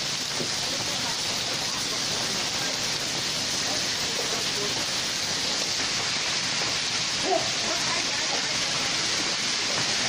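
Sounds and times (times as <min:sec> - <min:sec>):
heavy rain and hail: 0:00.0 - 0:10.0.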